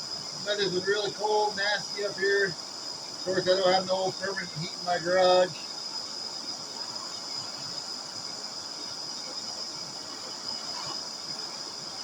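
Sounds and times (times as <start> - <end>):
gas burner hissing: 0.0 - 12.0
high-pitched whine: 0.0 - 12.0.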